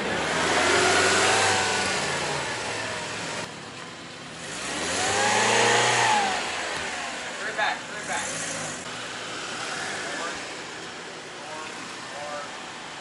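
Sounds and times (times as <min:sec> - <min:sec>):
car engine driving slowly: 0:00.0 - 0:13.0.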